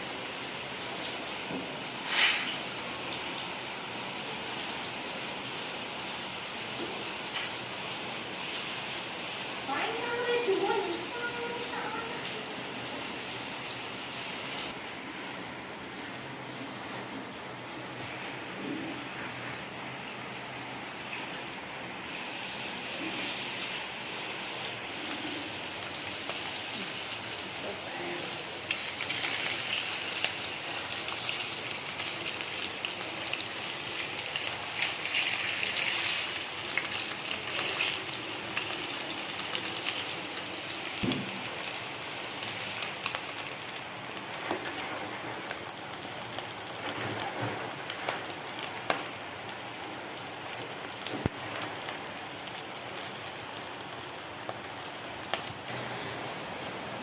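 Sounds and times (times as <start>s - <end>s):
food sizzling in hot oil: 0.0s - 14.8s, 22.1s - 56.2s.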